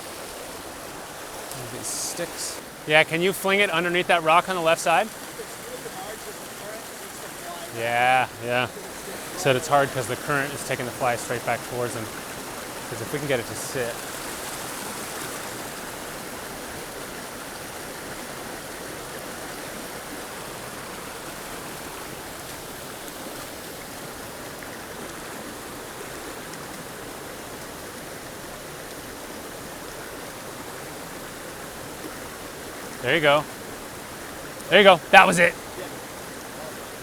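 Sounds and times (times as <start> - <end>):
creek water rushing: 0.0 - 37.0.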